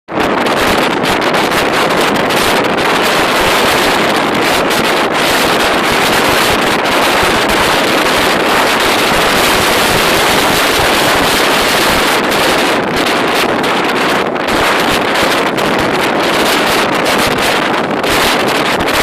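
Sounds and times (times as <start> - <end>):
strong wind over microphone: 0.1 - 19.0.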